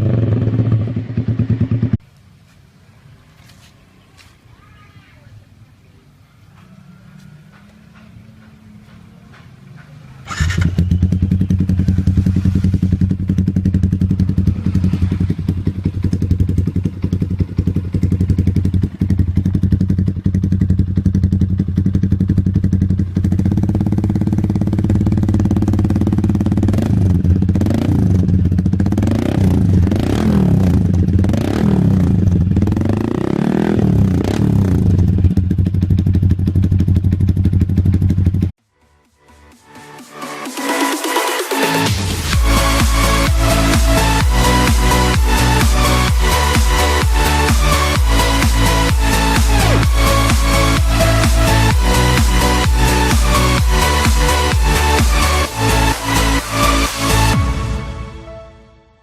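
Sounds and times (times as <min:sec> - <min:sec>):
motorcycle engine idling and revving: 0:00.0 - 0:02.1, 0:05.7 - 0:57.6.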